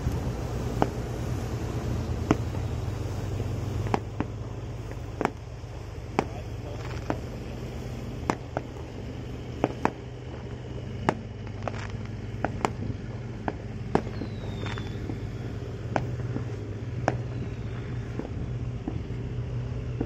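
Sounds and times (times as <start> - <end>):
boat engine drone: 0.0 - 20.0
firecrackers banging: 0.0 - 20.0.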